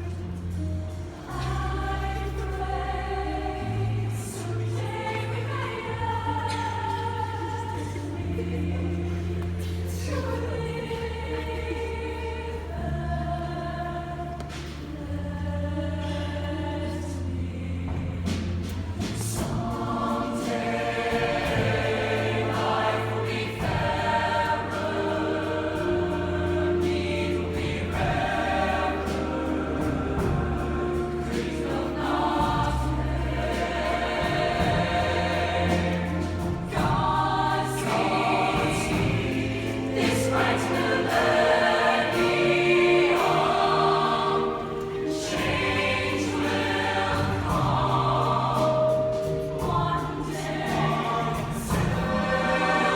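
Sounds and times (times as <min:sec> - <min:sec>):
group singing held chords: 0:00.0 - 0:52.9.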